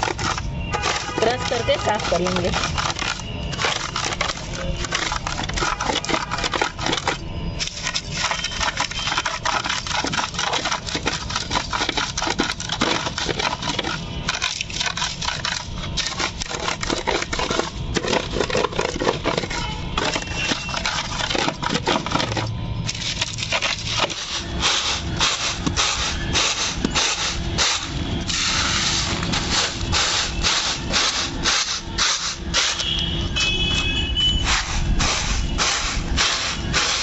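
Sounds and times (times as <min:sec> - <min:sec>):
chickpeas rattling in bamboo basket: 0:00.0 - 0:32.8
chickpeas crunching under brick: 0:00.0 - 0:37.0.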